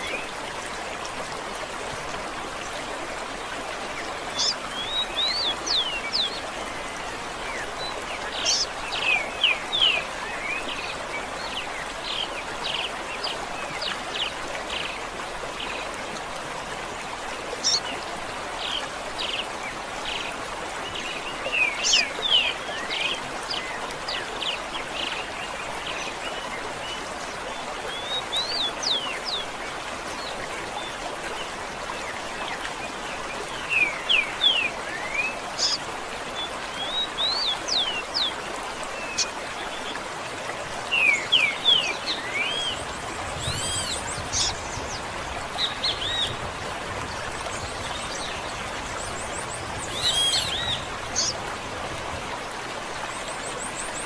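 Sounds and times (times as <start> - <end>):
running water: 0.0 - 54.0
songbirds chirping: 0.0 - 54.0.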